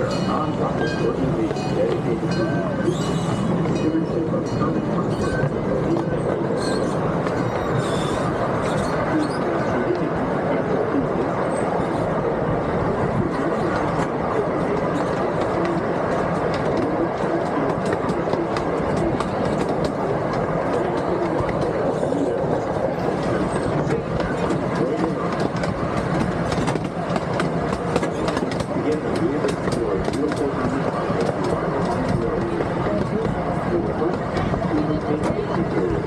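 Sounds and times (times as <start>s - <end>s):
steel wheels rumbling on rail: 0.0s - 36.0s.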